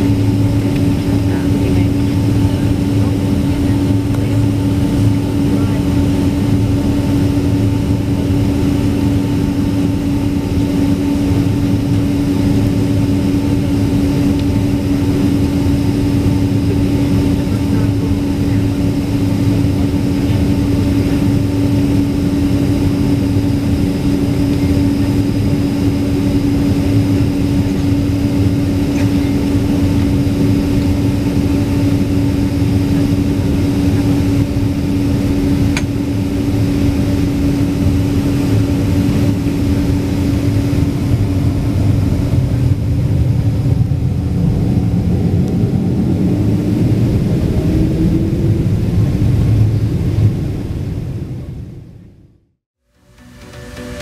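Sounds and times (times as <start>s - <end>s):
jet engine rumble and drone: 0.0s - 54.0s.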